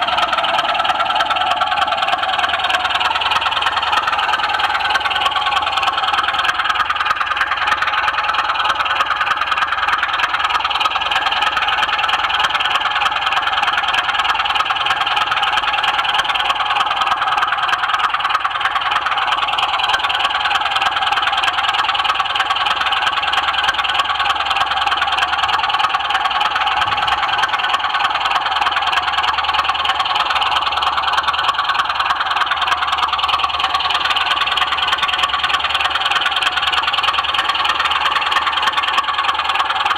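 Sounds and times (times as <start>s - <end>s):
model train whirring: 0.0s - 39.9s
wheels clicking on rails: 0.0s - 39.9s.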